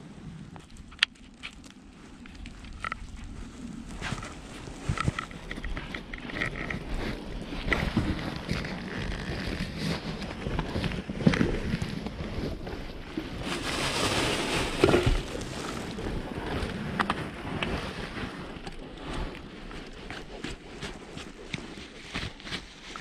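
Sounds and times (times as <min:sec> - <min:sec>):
jacket and plastic bag rustling: 0:01.2 - 0:23.0.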